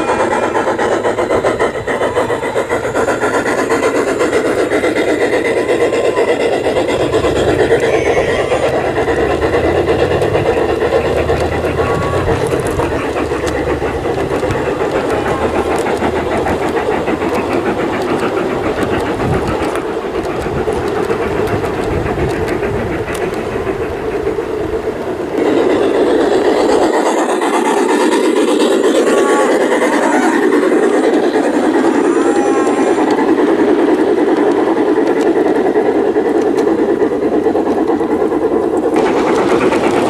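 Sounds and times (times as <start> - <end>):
model train wheels rumbling: 0.0 - 40.0.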